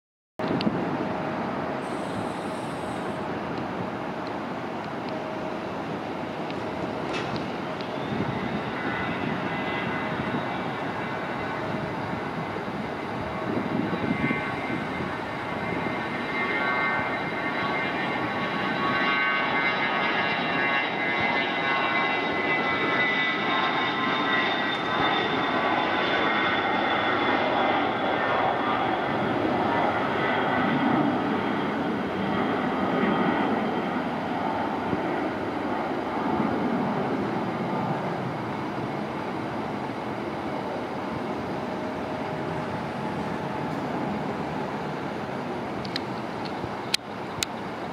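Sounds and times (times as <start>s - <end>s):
jet engine roar: 0.4s - 47.9s.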